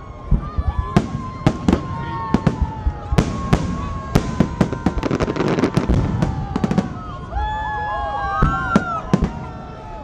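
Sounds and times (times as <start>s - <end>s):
fireworks bursting: 0.2s - 7.3s, 8.4s - 10.0s.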